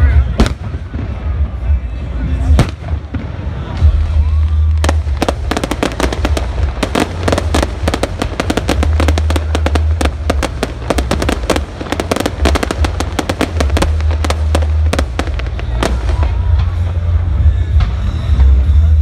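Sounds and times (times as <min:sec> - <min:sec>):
fireworks bangs and crackles: 0:00.0 - 0:19.0
low rumble: 0:00.0 - 0:19.0.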